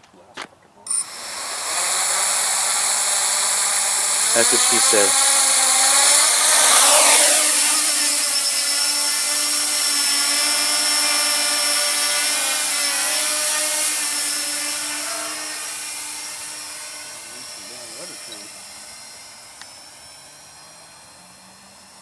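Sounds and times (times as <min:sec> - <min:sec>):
quadcopter motors whining: 0:00.9 - 0:22.0.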